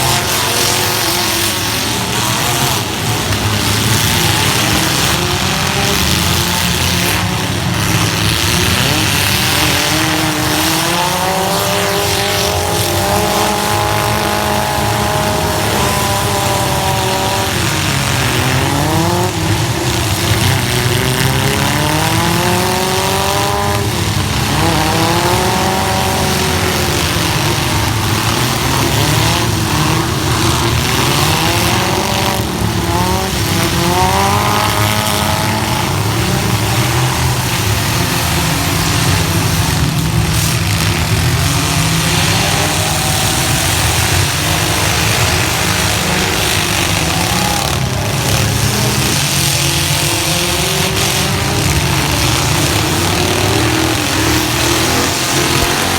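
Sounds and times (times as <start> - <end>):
constant noisy din: 0.0 - 55.9
truck engines revving hard: 0.0 - 55.9.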